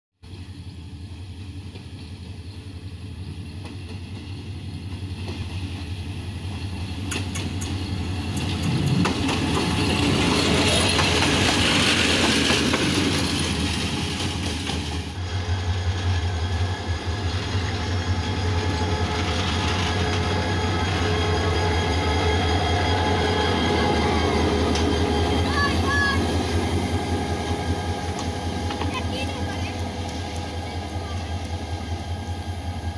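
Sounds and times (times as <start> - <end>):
locomotive engine hum: 0.2 - 32.9
train wheels hissing on rails: 0.3 - 32.9.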